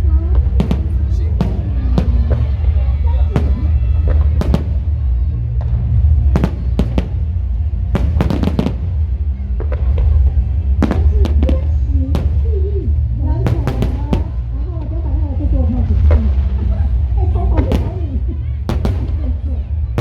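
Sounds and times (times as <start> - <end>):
steady low rumble: 0.0 - 20.0
fireworks bangs: 0.3 - 15.0, 15.9 - 20.0.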